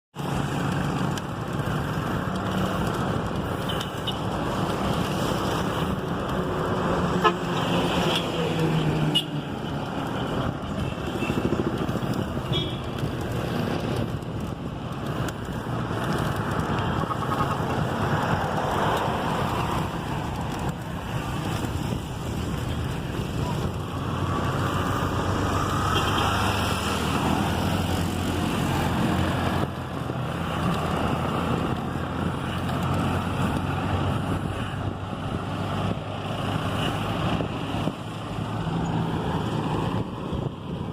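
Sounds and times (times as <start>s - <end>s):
vehicle engine and road noise: 0.1s - 40.9s.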